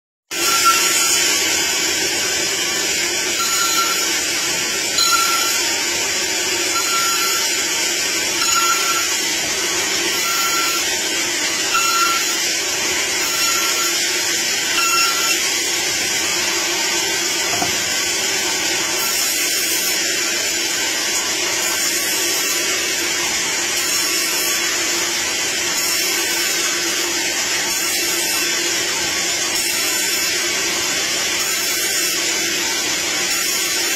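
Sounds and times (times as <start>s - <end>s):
band saw cutting wood: 0.3s - 33.9s.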